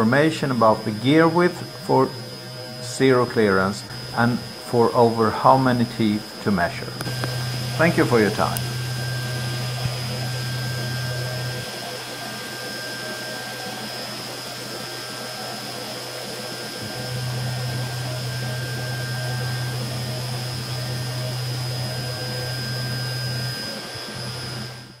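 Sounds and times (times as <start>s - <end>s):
milling machine hum: 0.0s - 25.0s.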